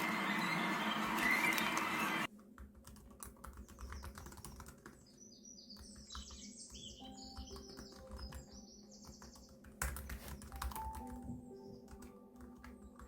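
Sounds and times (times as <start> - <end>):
birds chirping: 0.0 - 2.3, 3.6 - 12.2
keyboard typing: 0.0 - 5.1, 5.8 - 13.0.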